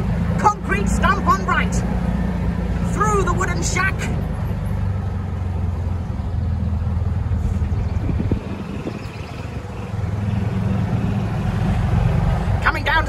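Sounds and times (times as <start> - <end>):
golf cart humming: 0.0 - 13.0.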